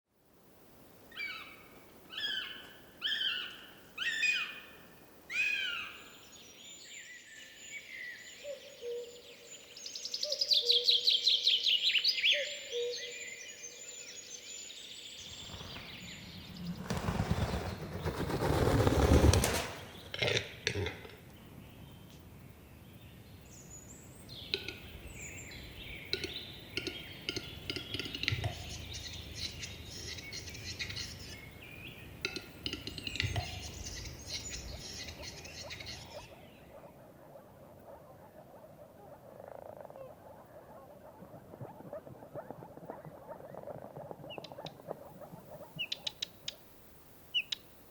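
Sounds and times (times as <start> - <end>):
birds calling and singing: 5.3 - 19.0, 19.8 - 46.6.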